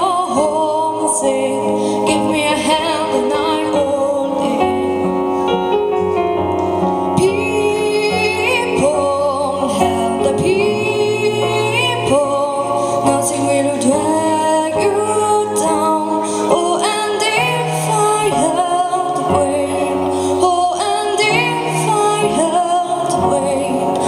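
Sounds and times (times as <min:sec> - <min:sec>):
woman singing: 0:00.0 - 0:05.2, 0:07.1 - 0:24.0
instrumental accompaniment: 0:00.0 - 0:24.0.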